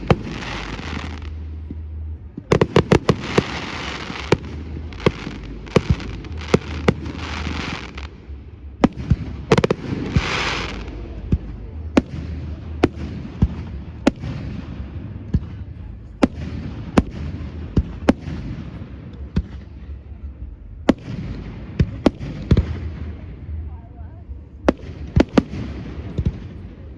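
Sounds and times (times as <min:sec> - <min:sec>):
hissing sparkling fireworks: 0:00.0 - 0:20.2, 0:24.6 - 0:26.9
low rumble: 0:00.0 - 0:26.9.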